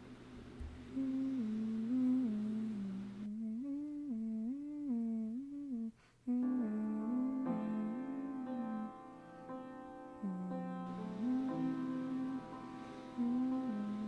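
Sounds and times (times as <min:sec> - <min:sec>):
person humming a tune: 0:00.8 - 0:09.0, 0:10.2 - 0:14.0.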